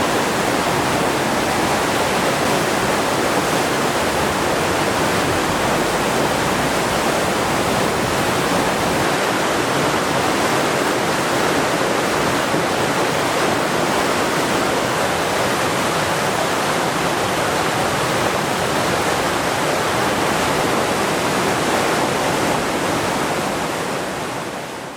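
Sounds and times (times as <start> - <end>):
creek floodwater rushing: 0.0 - 24.9.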